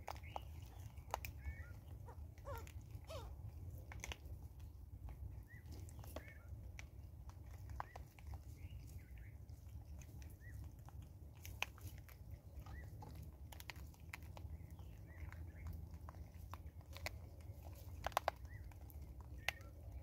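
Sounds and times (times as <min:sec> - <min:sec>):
monkeys chewing corn kernels: 0:00.0 - 0:20.0.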